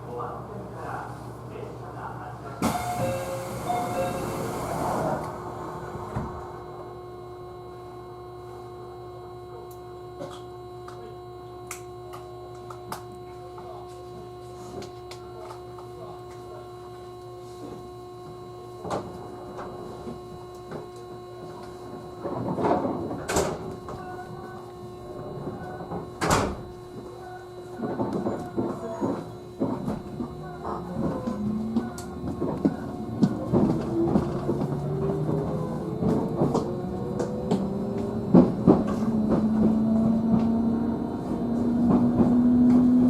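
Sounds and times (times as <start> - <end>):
electric train hum: 0.0 - 43.0.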